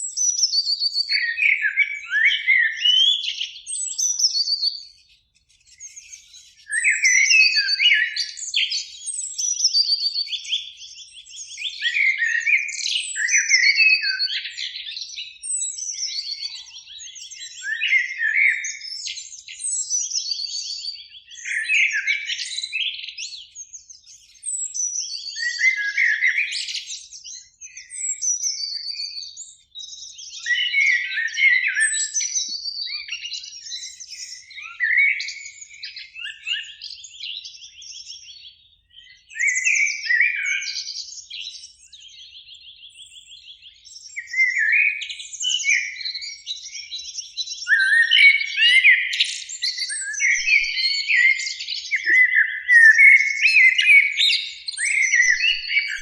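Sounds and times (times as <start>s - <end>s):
blackbirds singing: 0.0s - 56.0s.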